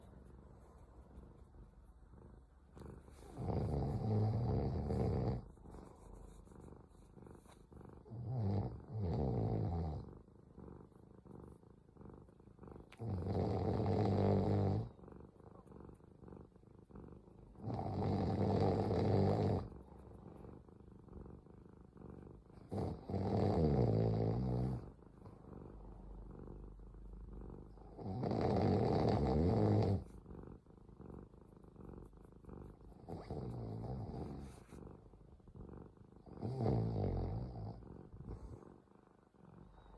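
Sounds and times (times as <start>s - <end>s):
cat purring and snoring: 1.2s - 39.9s.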